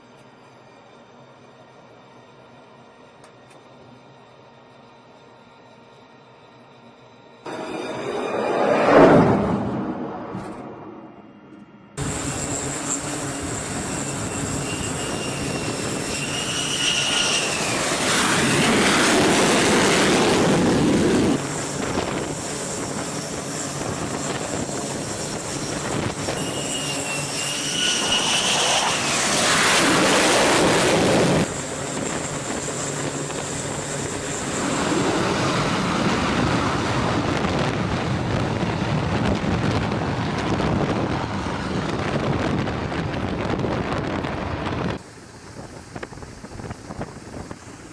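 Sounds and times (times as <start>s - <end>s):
jet engine whine and roar: 0.0s - 47.9s.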